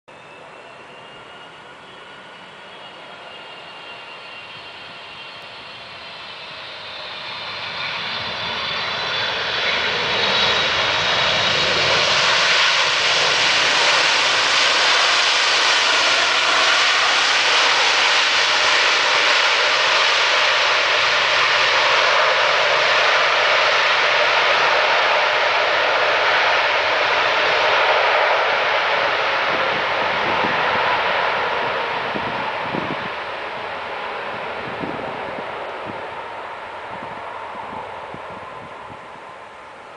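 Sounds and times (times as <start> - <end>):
jet engines roaring: 0.1 - 39.9.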